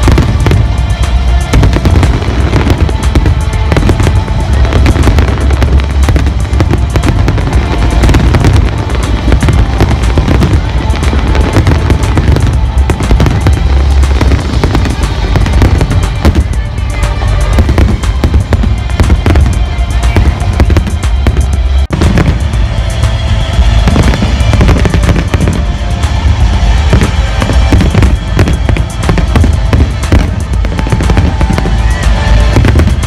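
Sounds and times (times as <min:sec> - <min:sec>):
deep fireworks booms: 0:00.0 - 0:33.0
fireworks bangs and crackles: 0:00.0 - 0:33.0
loud music: 0:00.0 - 0:33.0.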